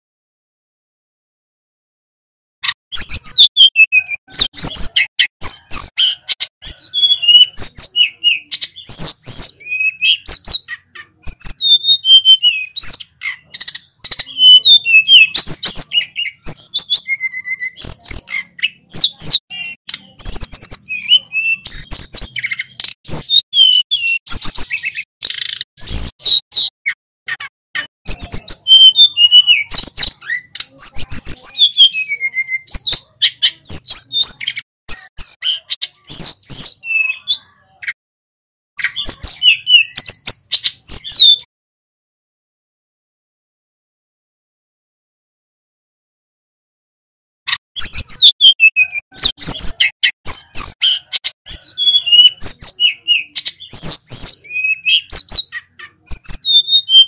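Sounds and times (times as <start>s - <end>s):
bird singing whistled phrases: 2.9s - 26.7s, 27.3s - 38.0s, 38.8s - 41.5s, 47.8s - 57.0s.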